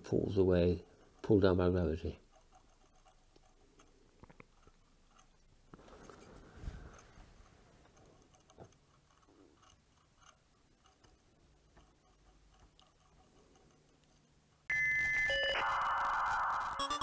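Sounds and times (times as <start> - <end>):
faint irregular ticking: 0.0 - 14.7.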